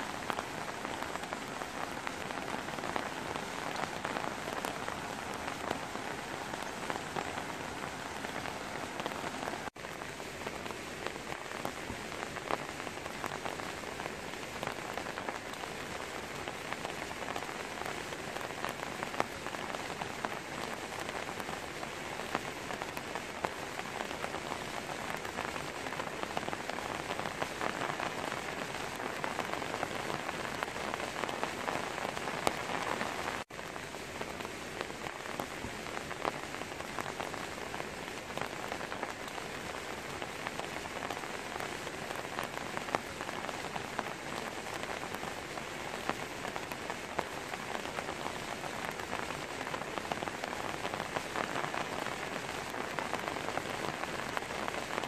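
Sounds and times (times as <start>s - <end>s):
rain falling on leafy trees: 0.0s - 55.0s.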